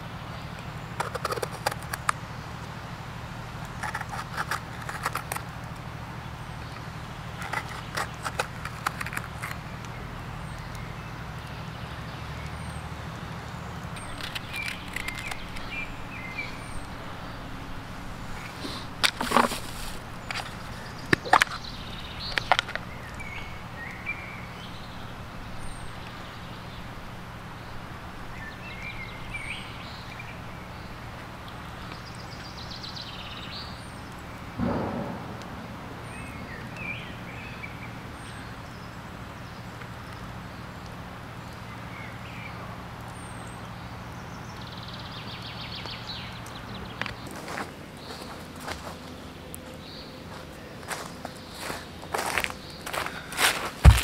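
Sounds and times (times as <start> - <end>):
low background hum: 0.0 - 54.0
small birds chirping: 0.0 - 54.0.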